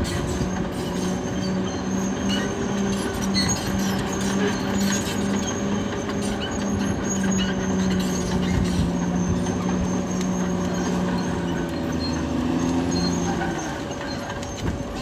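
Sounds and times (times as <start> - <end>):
diesel engine drone: 0.0 - 15.0
steel tracks clanking: 0.0 - 15.0.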